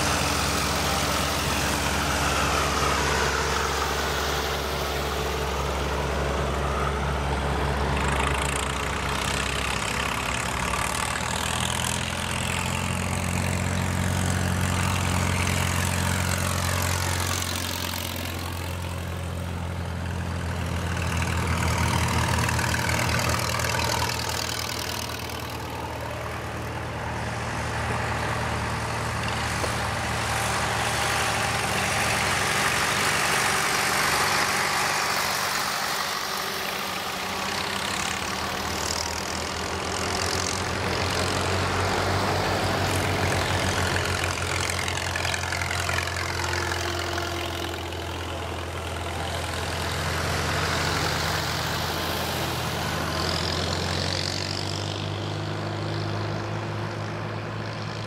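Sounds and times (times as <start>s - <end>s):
tractor engines driving past: 0.0s - 58.0s.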